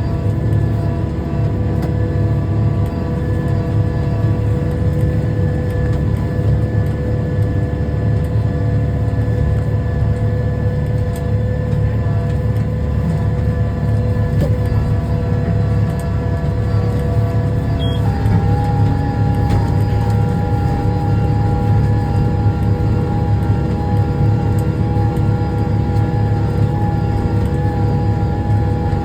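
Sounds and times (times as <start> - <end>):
steady whine: 0.0 - 29.0
tractor engine running under load: 0.0 - 29.0.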